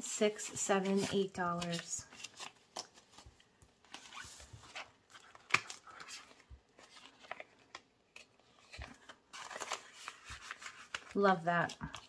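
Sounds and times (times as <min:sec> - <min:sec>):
paper rustling: 0:00.3 - 0:12.0.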